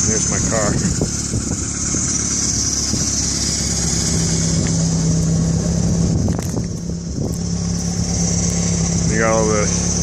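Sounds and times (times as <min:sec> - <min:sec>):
wind buffeting microphone: 0:00.3 - 0:09.1.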